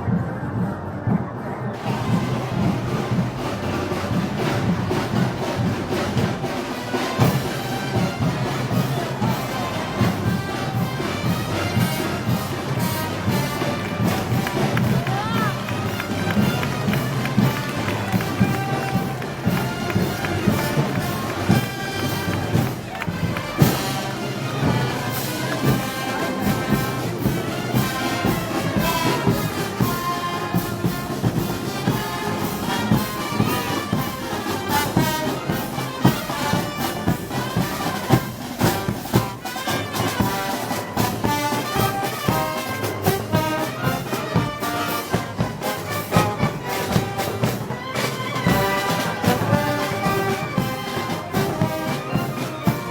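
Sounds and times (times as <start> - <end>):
drum beats: 0.0 - 52.9
trumpets and trombones: 1.3 - 52.9.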